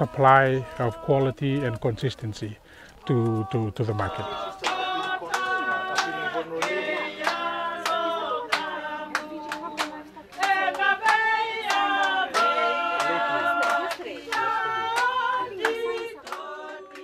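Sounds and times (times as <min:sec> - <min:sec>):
group singing in harmony: 0:00.0 - 0:02.4, 0:03.0 - 0:17.0
hand clapping: 0:03.0 - 0:17.0.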